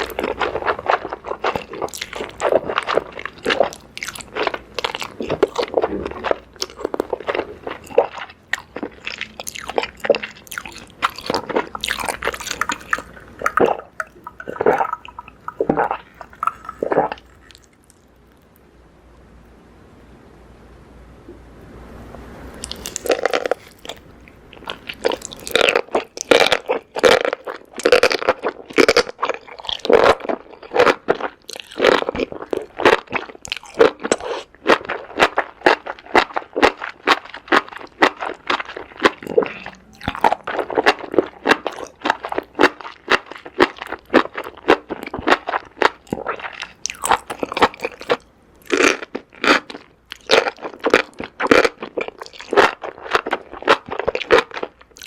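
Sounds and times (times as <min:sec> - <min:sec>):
person chewing crunchy food: 0:00.0 - 0:18.5, 0:22.6 - 0:55.0.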